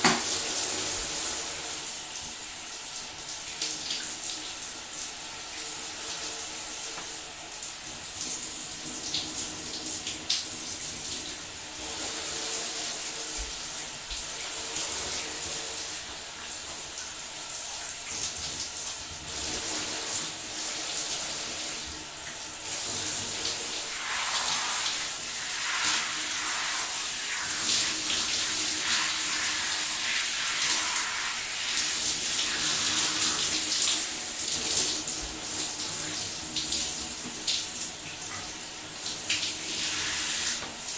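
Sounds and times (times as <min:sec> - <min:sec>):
shower water splashing: 0:00.0 - 0:40.9.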